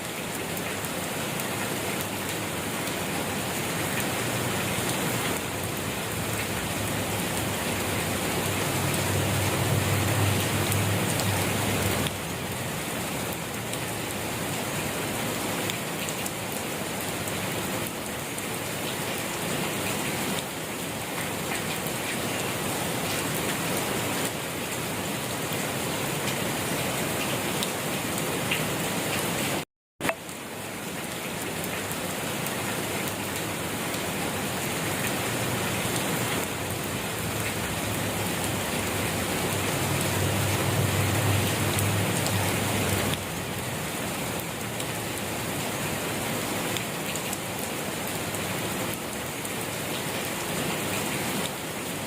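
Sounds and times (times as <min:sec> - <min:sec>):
steady rain patter: 0:00.0 - 0:52.0.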